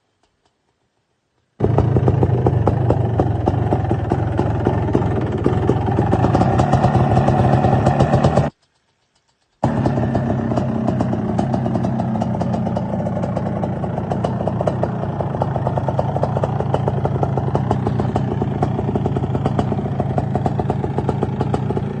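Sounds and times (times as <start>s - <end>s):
two-stroke engine running: 1.6s - 8.6s, 9.6s - 22.0s.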